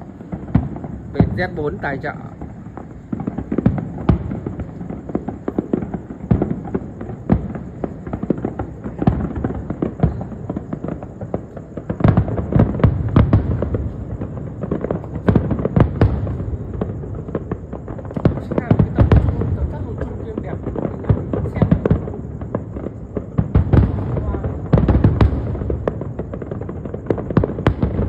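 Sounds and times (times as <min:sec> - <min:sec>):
fireworks booms and bangs: 0:00.0 - 0:28.0.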